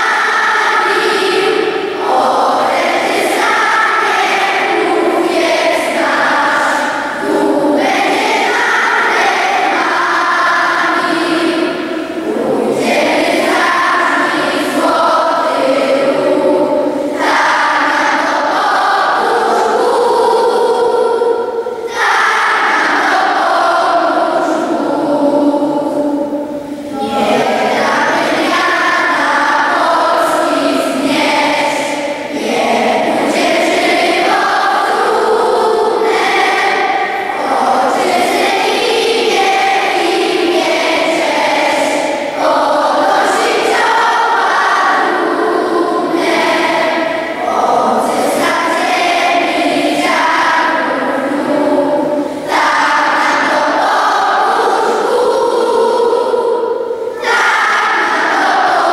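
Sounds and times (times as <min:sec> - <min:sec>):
children's choir singing: 0:00.0 - 0:58.9.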